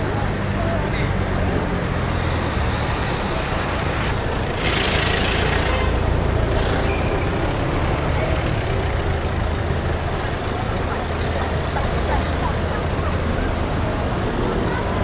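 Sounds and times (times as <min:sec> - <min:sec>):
bus passing: 0:00.0 - 0:15.0
traffic engines rumbling: 0:00.0 - 0:15.0.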